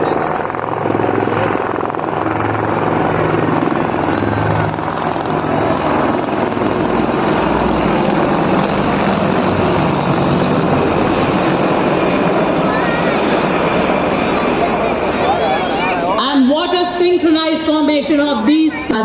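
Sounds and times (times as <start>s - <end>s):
military aircraft flying overhead: 0.0s - 19.0s.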